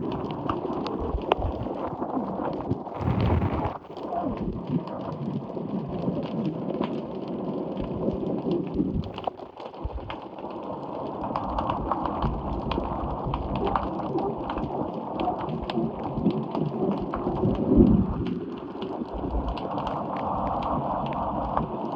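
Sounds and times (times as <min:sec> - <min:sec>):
water washing under a wharf: 0:00.0 - 0:21.9.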